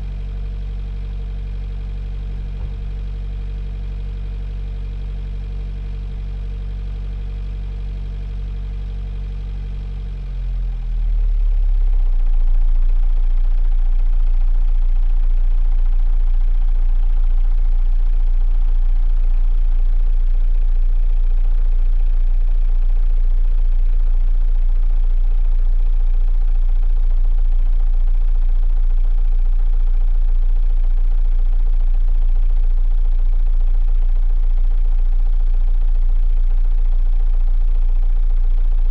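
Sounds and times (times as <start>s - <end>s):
diesel engine low rumble: 0.0s - 38.9s.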